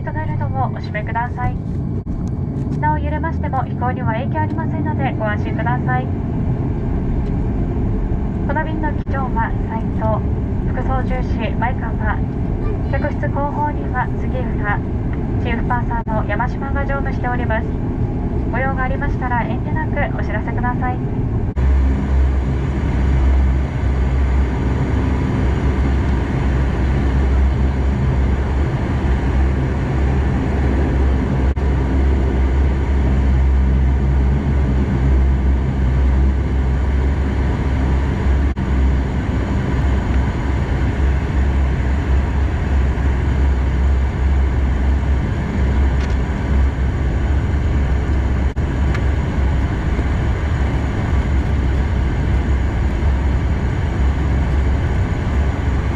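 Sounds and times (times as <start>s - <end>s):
turboprop engine drone in cabin: 0.0s - 55.9s.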